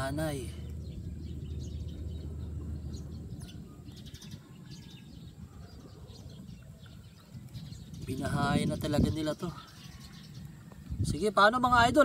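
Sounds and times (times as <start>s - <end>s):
low steady hum: 0.0s - 11.2s
birds chirping: 0.0s - 12.0s.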